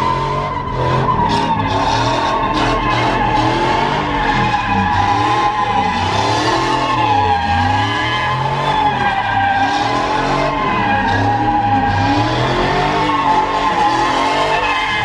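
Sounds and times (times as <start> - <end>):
tire screeching: 0.0 - 15.0
truck engine revving: 0.0 - 15.0.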